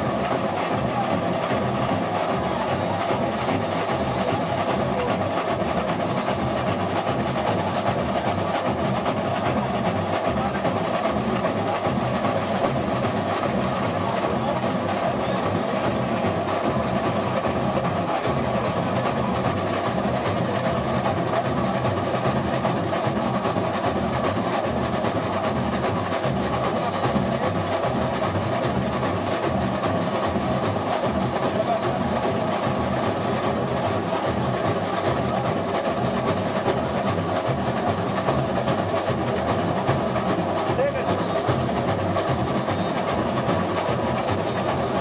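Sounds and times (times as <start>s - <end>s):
deep bass drums pulsing: 0.0s - 45.0s
samba drum corps playing: 0.0s - 45.0s.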